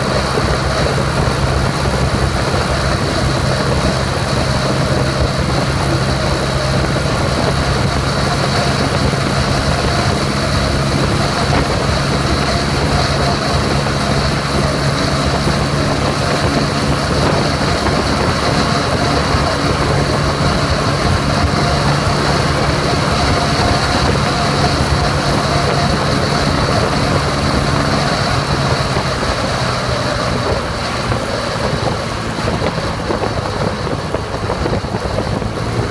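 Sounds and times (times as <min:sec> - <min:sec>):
scooter engine running: 0:00.0 - 0:35.9
wind and road noise: 0:00.0 - 0:35.9.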